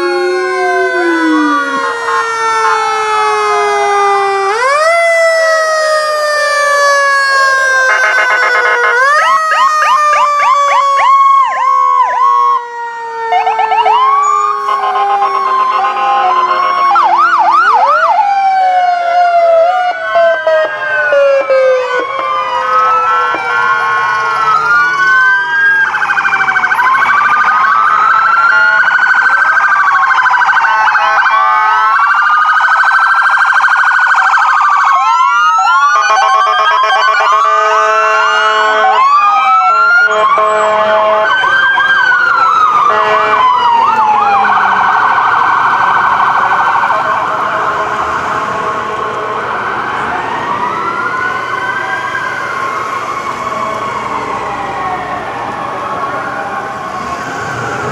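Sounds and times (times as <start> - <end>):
sirens wailing and yelping: 0.0 - 57.9.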